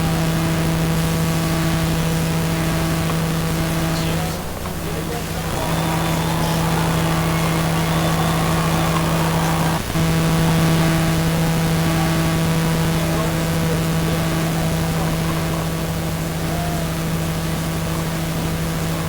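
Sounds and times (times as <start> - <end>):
steady low buzz: 0.0 - 19.0.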